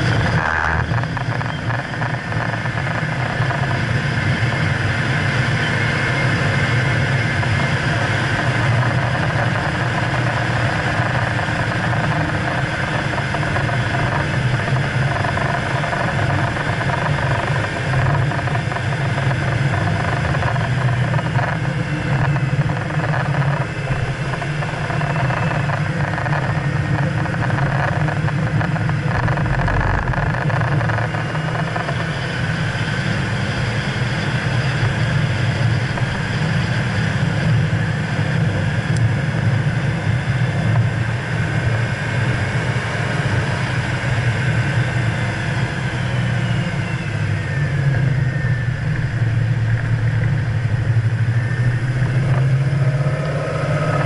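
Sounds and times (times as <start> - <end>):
car engine running hard: 0.0 - 54.0
road and wind noise: 0.0 - 54.0.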